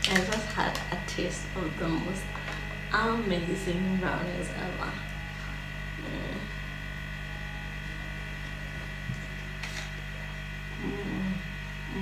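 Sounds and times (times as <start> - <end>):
electrical hum and whine: 0.0 - 12.0.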